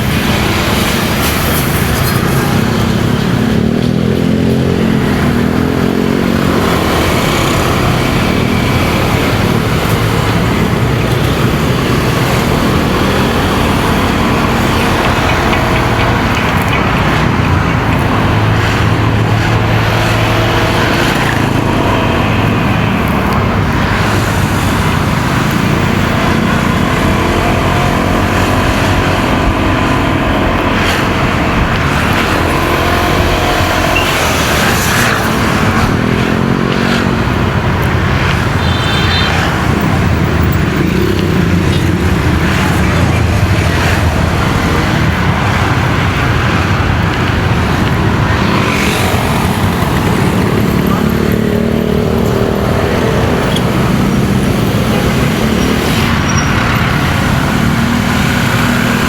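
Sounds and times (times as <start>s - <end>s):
motorcycle engine running: 0.0s - 59.0s
road traffic: 0.0s - 59.0s.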